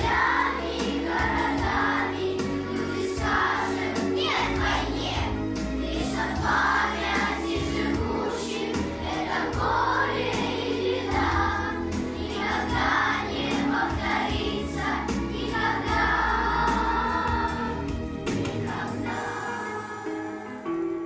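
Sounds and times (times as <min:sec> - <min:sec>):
children's choir singing: 0:00.0 - 0:20.8.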